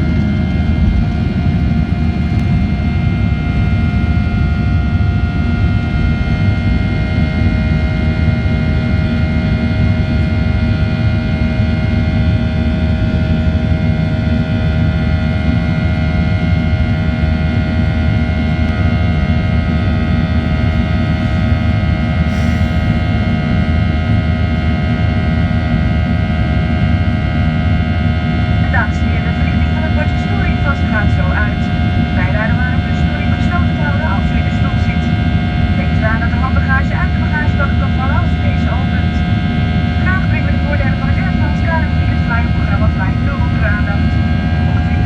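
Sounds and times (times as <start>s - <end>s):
aircraft engine rumble: 0.0s - 45.0s
steady whining tones: 0.0s - 45.0s.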